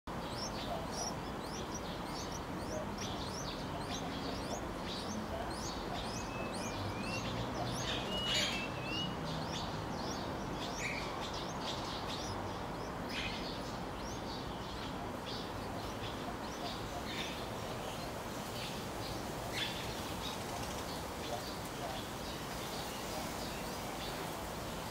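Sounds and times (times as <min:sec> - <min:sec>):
small birds chirping: 0:00.1 - 0:24.9.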